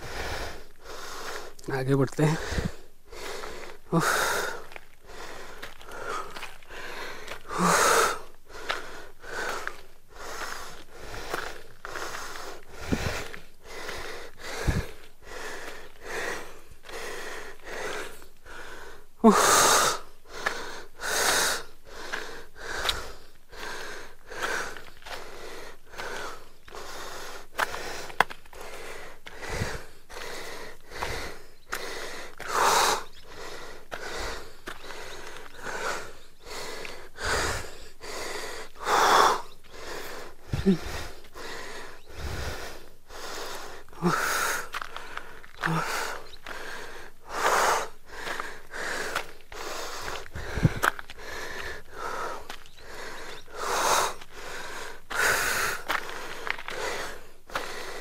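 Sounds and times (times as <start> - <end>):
man panting hard: 0.0 - 58.0.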